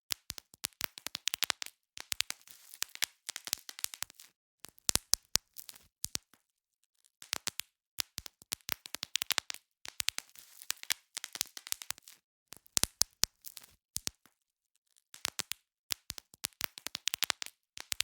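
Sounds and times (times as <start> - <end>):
bubble wrap popping: 0.1 - 6.4, 7.2 - 14.3, 15.1 - 18.0.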